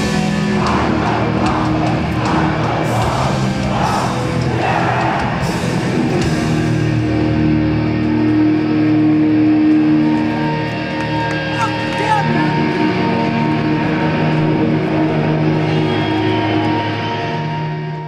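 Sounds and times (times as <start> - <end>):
punk band playing live: 0.0 - 17.8
ringing guitar chords: 0.0 - 18.0.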